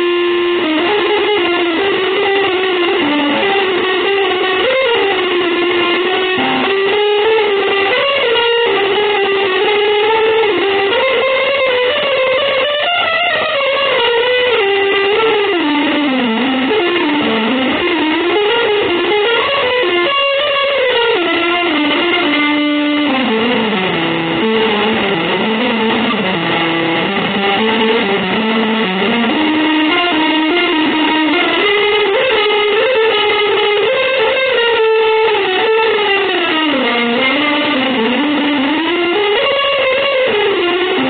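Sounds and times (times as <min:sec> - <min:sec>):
electric guitar sliding melody: 0:00.0 - 0:41.0.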